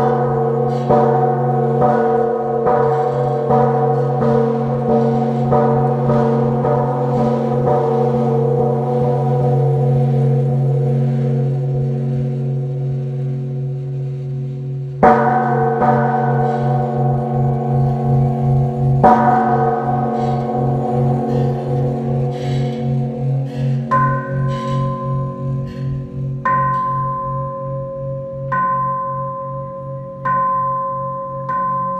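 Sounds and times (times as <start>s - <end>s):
large temple bell ringing: 0.0s - 31.9s.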